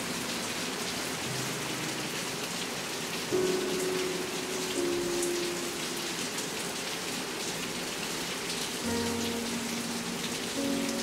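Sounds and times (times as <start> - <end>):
soft ambient music: 0.0 - 11.0
steady rain: 0.0 - 11.0.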